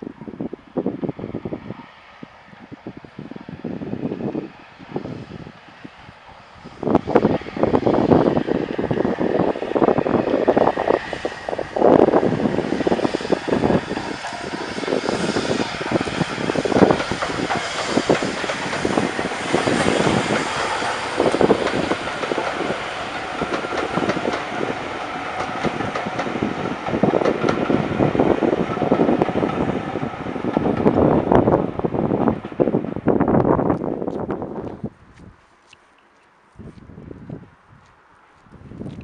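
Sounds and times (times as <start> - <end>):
steam locomotive working: 0.3 - 34.6
coaches rolling on rails: 0.3 - 35.0.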